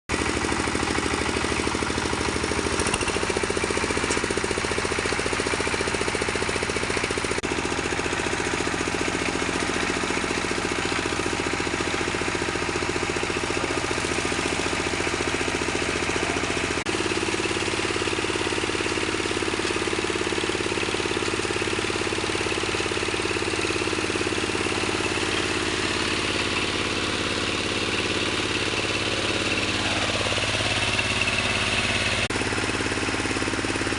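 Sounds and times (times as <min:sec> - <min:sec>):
wood crusher machine running: 0:00.1 - 0:33.9.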